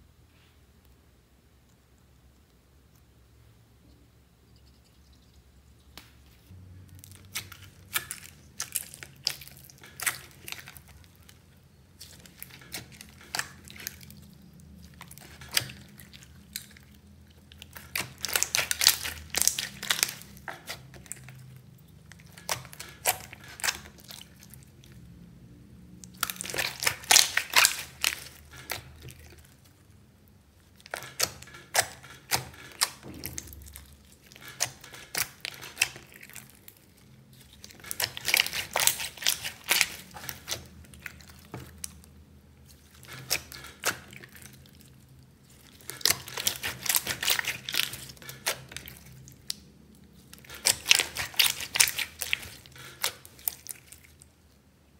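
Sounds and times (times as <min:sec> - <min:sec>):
slime squeezed crackling and popping: 0:06.8 - 0:25.1, 0:26.0 - 0:29.9, 0:30.6 - 0:54.3.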